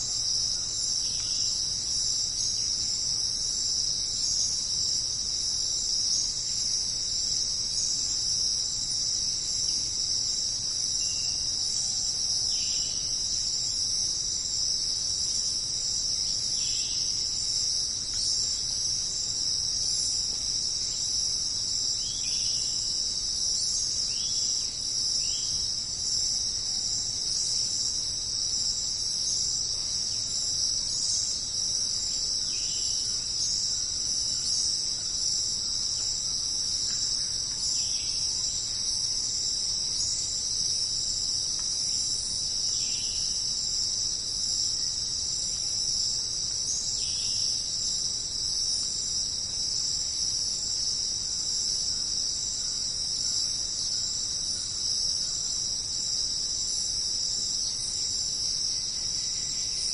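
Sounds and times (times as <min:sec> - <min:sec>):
jungle insect chorus: 0:00.0 - 0:59.9.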